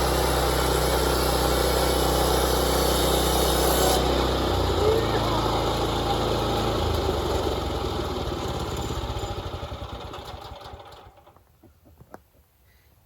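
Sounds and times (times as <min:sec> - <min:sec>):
engine winding down: 0:00.0 - 0:11.4.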